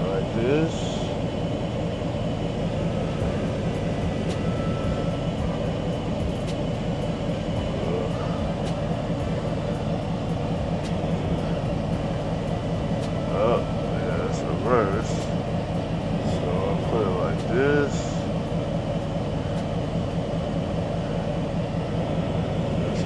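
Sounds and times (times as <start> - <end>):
pickup truck engine idling: 0.0 - 23.0.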